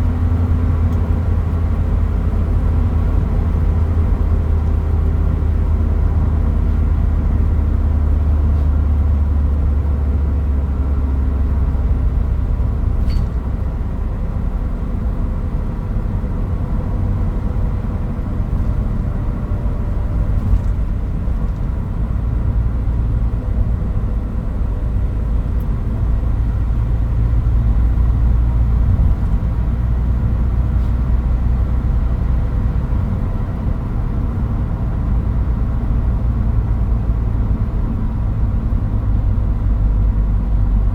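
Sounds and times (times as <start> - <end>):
pickup truck engine and road rumble: 0.0 - 40.9.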